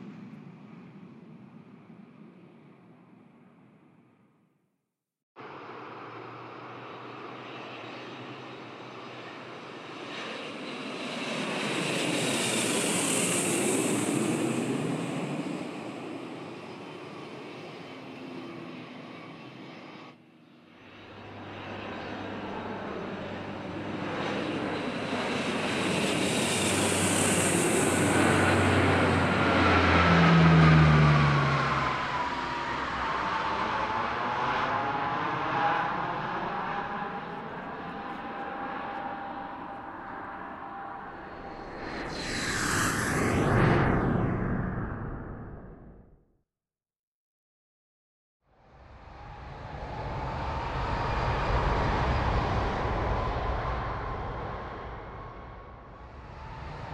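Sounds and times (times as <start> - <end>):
jet airliner engine whine: 0.0 - 4.1, 5.4 - 46.2, 48.7 - 56.9
turboprop aircraft passing: 5.4 - 46.2, 48.7 - 56.9.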